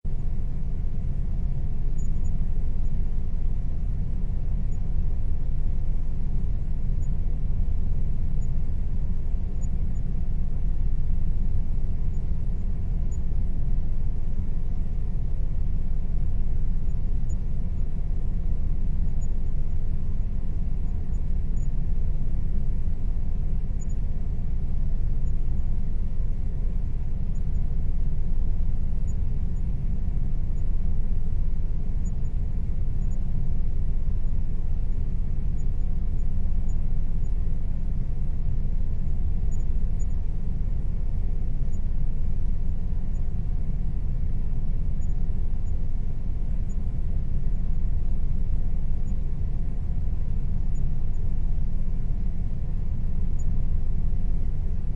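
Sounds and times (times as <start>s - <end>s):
faint steady tone: 0.0s - 54.9s.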